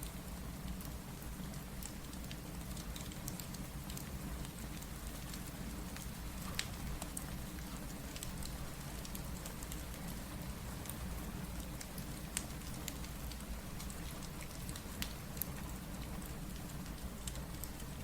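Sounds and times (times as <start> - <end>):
steady rain: 0.0 - 18.0
wood fire popping and crackling: 1.7 - 18.0.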